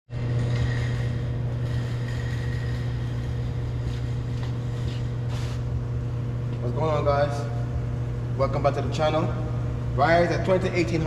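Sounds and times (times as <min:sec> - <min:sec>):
low mechanical hum: 0:00.1 - 0:11.0.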